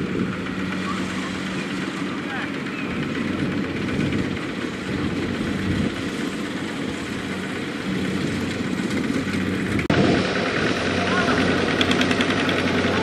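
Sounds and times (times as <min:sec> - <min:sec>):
diesel tractor engine running: 0:00.0 - 0:13.0.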